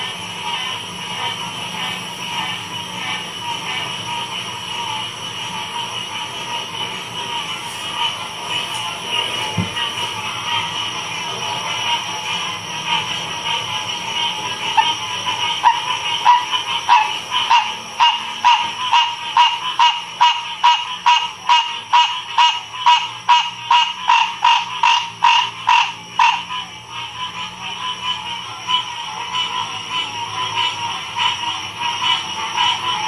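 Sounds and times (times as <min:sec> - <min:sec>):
chorus of frogs calling: 0:00.0 - 0:33.0.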